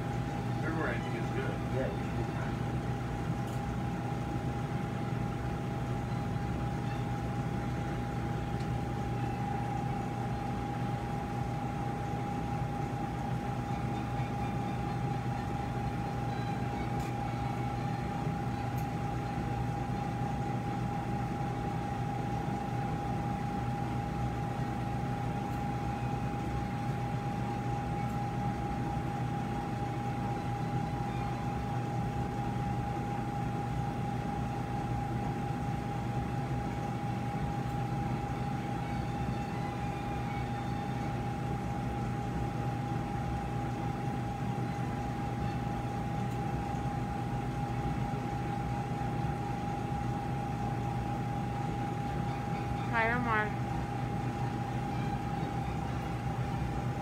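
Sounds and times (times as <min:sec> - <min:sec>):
constant thin whine: 0:00.0 - 0:57.0
equipment and air handling hum: 0:00.0 - 0:57.0.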